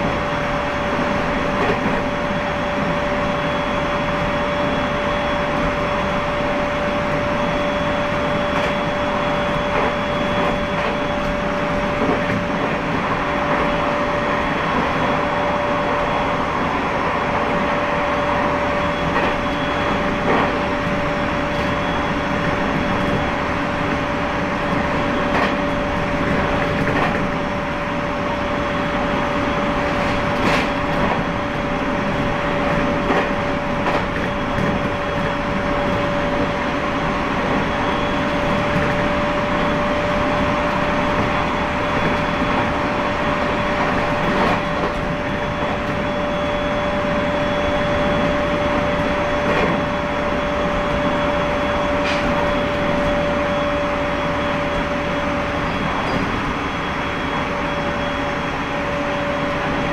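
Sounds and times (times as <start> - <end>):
constant whine: 0.0 - 59.9
train rolling rumble: 0.0 - 59.9.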